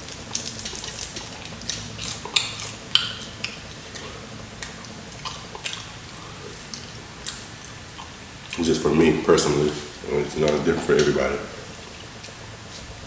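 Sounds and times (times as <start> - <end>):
crunching fried chicken: 0.0 - 13.0.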